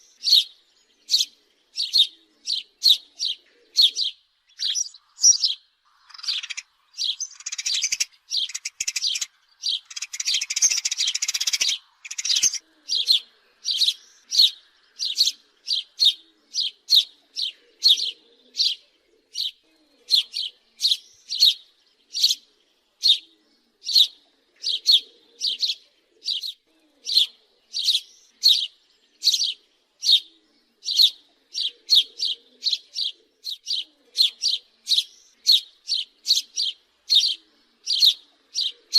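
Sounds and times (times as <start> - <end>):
sparrow chirping: 0.0 - 38.9.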